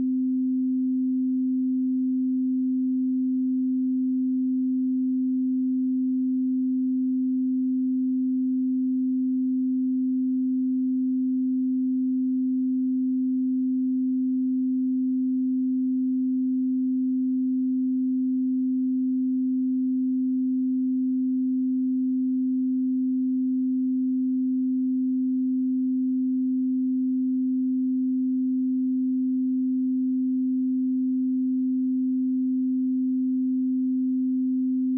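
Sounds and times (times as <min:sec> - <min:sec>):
steady sine tone: 0:00.0 - 0:34.9.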